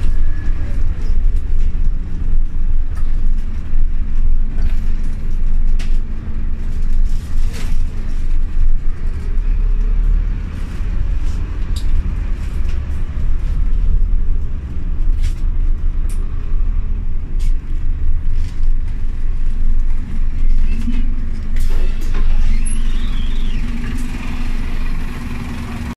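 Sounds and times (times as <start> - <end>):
bus engine and road rumble: 0.0 - 25.9.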